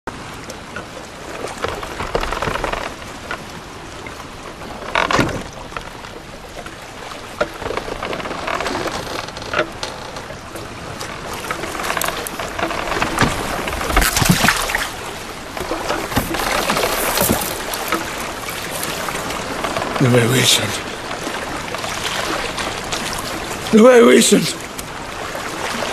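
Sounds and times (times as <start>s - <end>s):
waves lapping against a raft: 0.1s - 25.9s.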